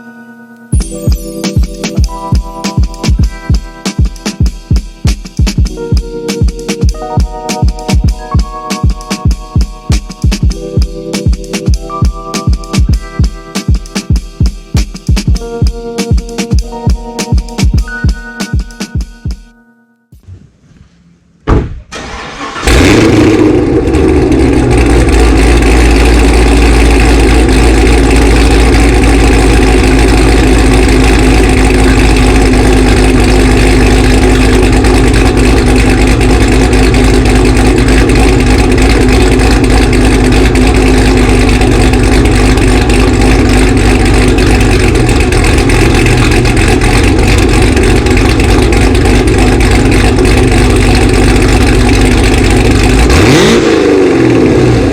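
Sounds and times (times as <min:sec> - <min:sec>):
car engine starting and idling: 0:02.1 - 0:14.6, 0:21.1 - 0:54.9.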